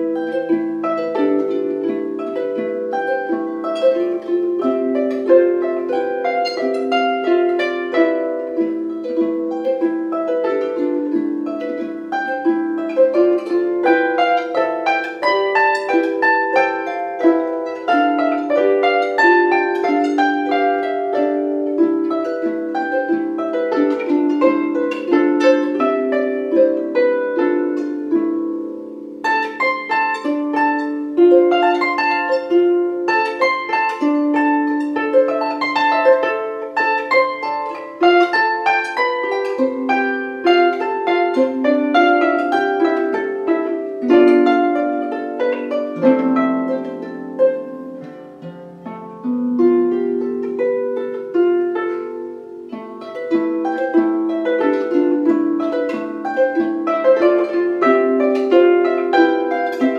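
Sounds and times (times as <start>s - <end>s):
harp playing slow piece: 0.0s - 59.9s.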